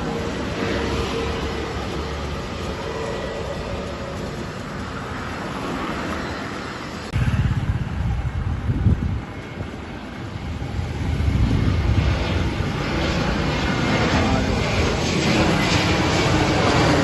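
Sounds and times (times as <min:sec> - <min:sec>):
jet airliner engines roaring: 0:00.0 - 0:17.0
wind buffeting the microphone: 0:01.7 - 0:17.0.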